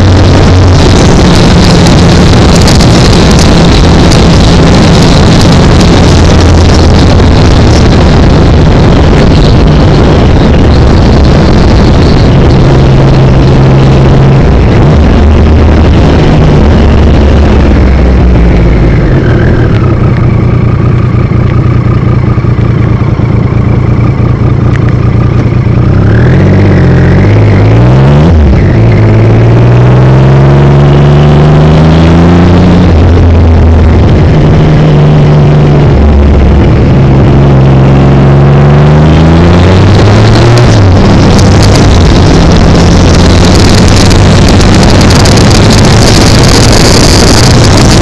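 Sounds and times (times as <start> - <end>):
wind noise on microphone: 0.0 - 20.9, 24.8 - 48.0
motorcycle engine running: 0.0 - 48.0.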